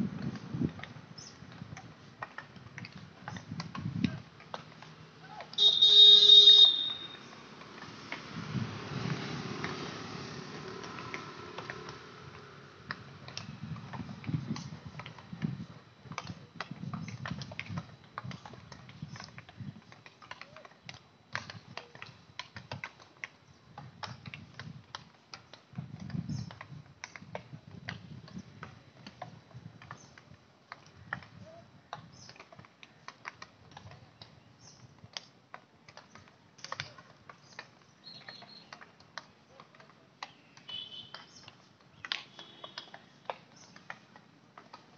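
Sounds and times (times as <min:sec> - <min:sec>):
hockey sticks striking balls: 0:00.2 - 0:15.3, 0:16.1 - 0:44.9.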